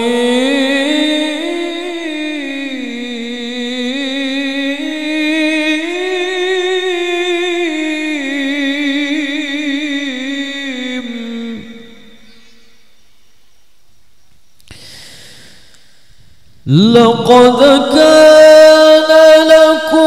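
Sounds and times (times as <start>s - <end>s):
man chanting melodic recitation: 0.0s - 12.8s, 16.6s - 20.0s.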